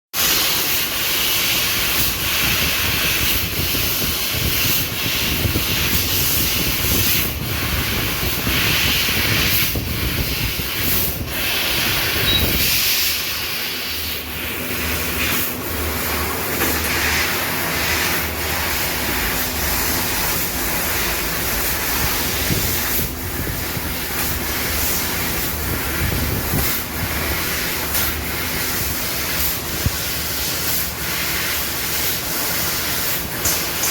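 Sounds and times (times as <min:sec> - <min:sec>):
laser cutting machine hissing: 0:00.2 - 0:33.9.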